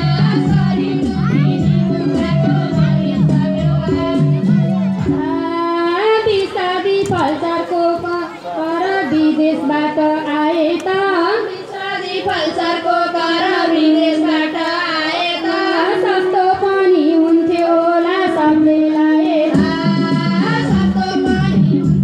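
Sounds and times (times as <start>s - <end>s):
music accompaniment: 0.0s - 8.2s, 10.3s - 22.0s
women singing: 0.0s - 22.0s.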